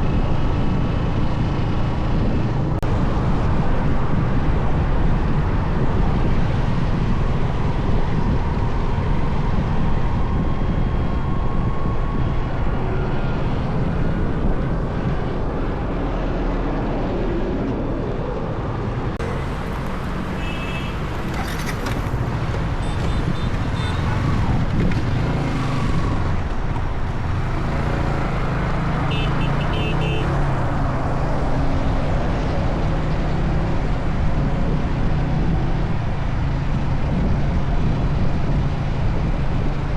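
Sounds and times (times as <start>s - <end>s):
motorbike engine and road noise: 0.0s - 39.9s
passing vehicles: 0.0s - 39.9s.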